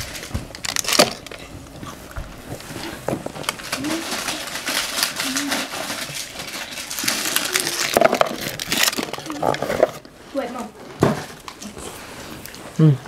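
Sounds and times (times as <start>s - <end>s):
packaging crinkling and rustling: 0.0s - 12.8s.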